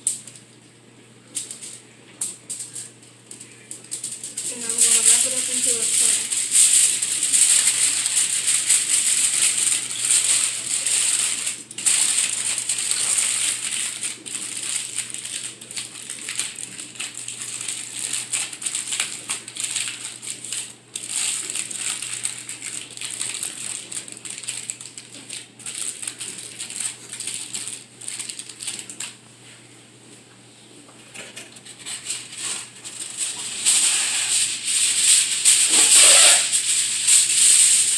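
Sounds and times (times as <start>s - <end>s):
aluminium foil crinkling: 0.0s - 29.2s, 31.0s - 37.9s.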